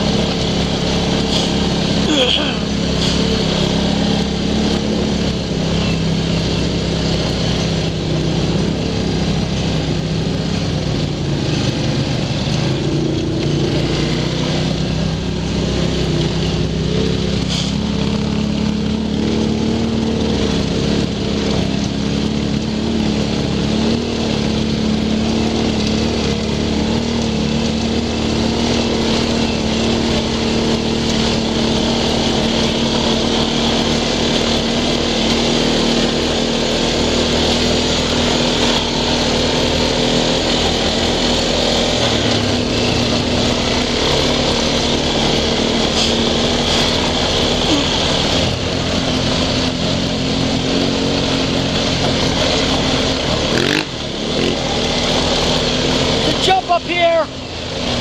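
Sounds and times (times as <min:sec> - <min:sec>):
atv engine running: 0:00.0 - 0:58.0
trail noise: 0:00.0 - 0:58.0.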